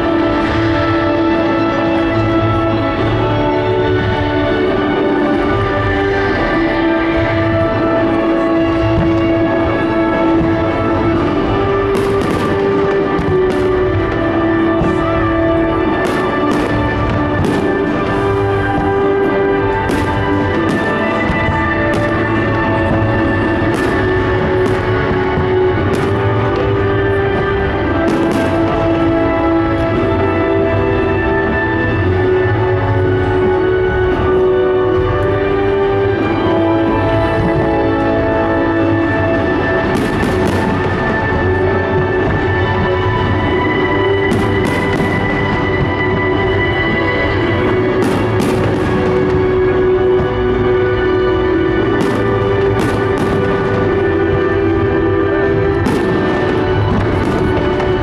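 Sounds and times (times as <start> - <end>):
fireworks bangs: 0.0 - 58.0
loud music with held notes: 0.0 - 58.0.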